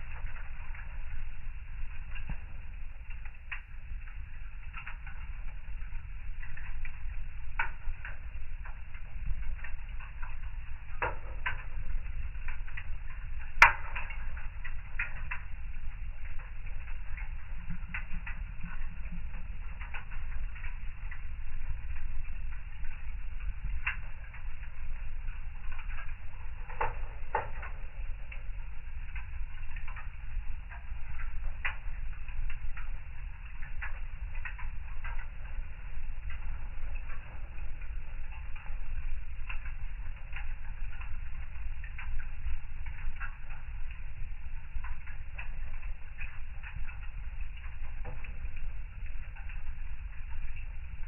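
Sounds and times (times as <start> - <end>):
low steady rumble: 0.0 - 51.0
wood fire crackling: 0.0 - 51.0.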